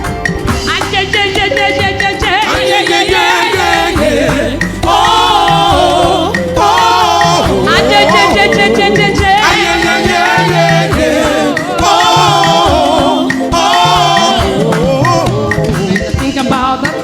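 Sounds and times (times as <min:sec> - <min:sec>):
steady bass: 0:00.0 - 0:16.8
band accompaniment: 0:00.0 - 0:17.0
choir singing gospel: 0:00.0 - 0:17.0.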